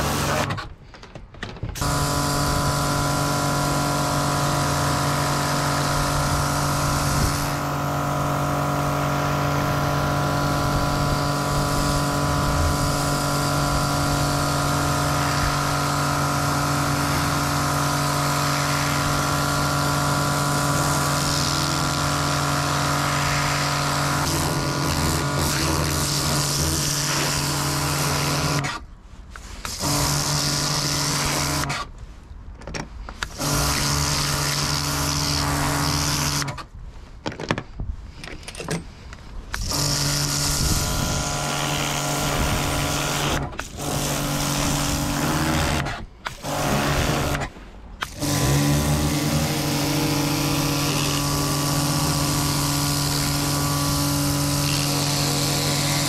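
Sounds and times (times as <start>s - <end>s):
pressure washer motor and pump drone: 0.0s - 0.6s, 1.8s - 28.8s, 29.4s - 31.9s, 33.1s - 36.6s, 39.5s - 56.0s.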